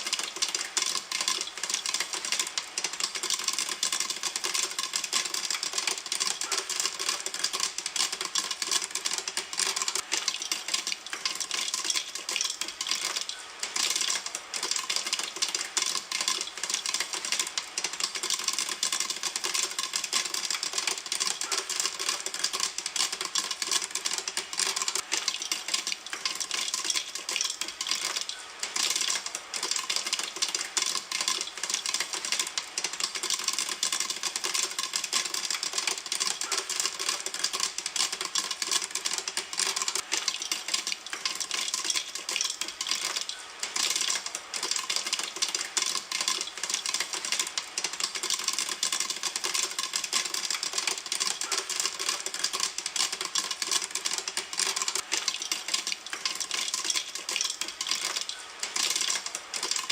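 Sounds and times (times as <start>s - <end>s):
popcorn popping in a pan: 0.0s - 59.9s.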